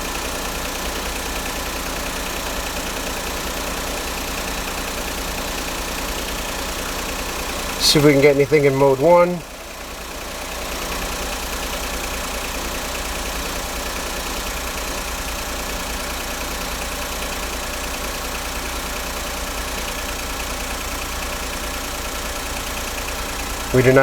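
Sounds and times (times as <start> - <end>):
car engine idling with misfire: 0.0 - 24.0.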